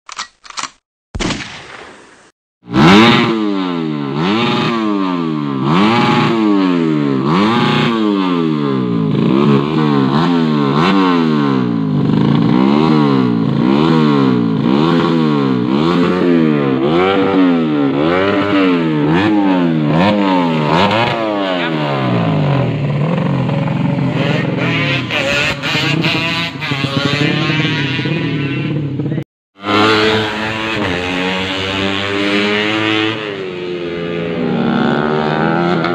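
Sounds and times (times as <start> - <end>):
motorcycle engine revving: 2.6 - 35.9.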